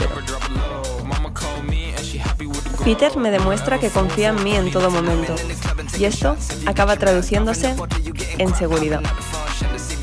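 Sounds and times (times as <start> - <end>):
music with beat and vocals: 0.0 - 10.0.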